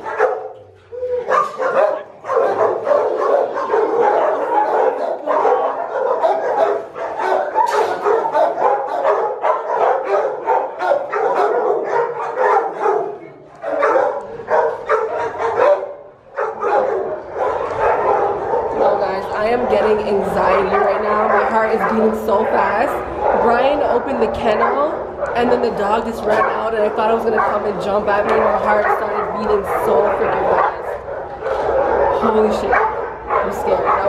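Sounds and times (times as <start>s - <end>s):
dogs barking: 0.0s - 34.0s.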